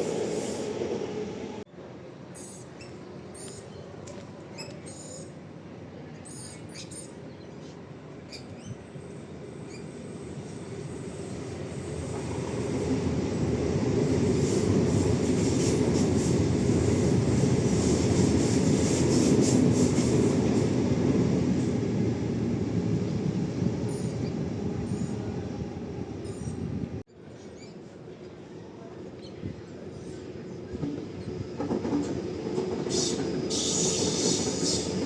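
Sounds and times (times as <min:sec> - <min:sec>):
train passing: 0:00.0 - 0:27.0, 0:29.7 - 0:35.0.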